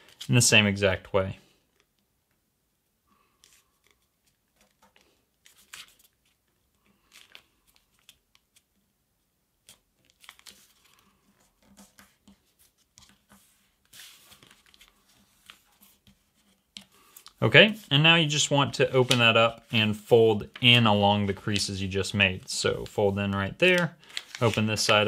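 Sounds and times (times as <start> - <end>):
paper rustling and crinkling: 3.4 - 8.6, 9.6 - 25.0.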